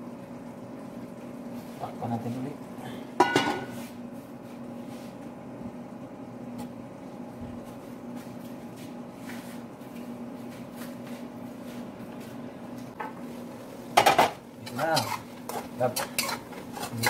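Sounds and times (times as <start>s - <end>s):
appliance humming: 0.0s - 17.0s.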